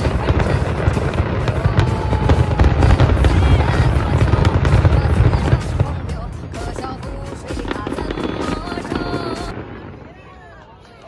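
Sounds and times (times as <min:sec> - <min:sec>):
fireworks bursting and crackling: 0:00.0 - 0:11.0
music playing: 0:00.0 - 0:11.0.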